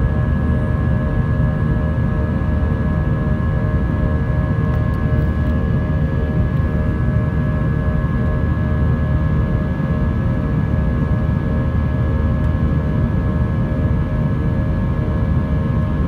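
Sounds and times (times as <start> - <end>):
jet engines heard inside cabin: 0.0 - 16.0.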